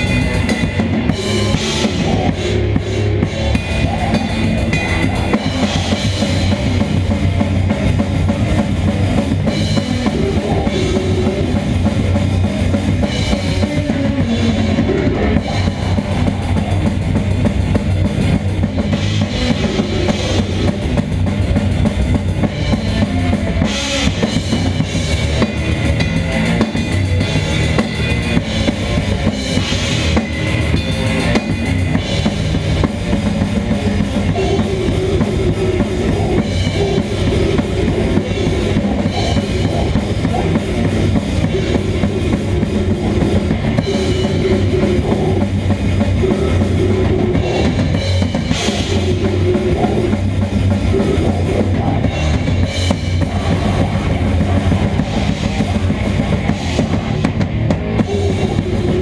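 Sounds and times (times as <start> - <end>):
death metal band playing live: 0.0 - 59.0
drum kit: 0.0 - 59.0.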